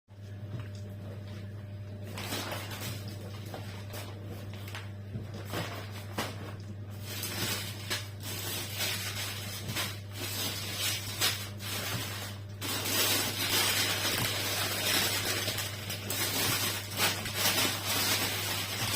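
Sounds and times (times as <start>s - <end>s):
steady low hum: 0.1s - 18.9s
crackles and clicks: 0.2s - 18.9s
plastic packaging crinkling: 1.9s - 18.9s.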